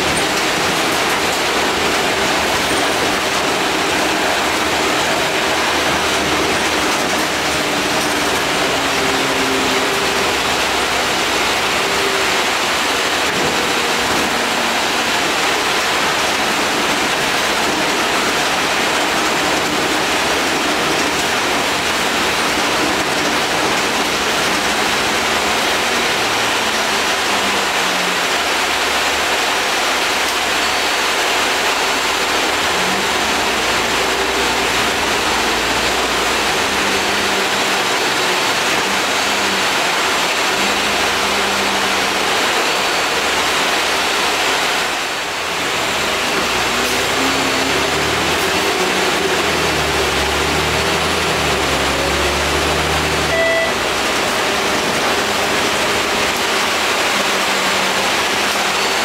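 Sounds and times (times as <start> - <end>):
bus running noise: 0.0 - 59.0.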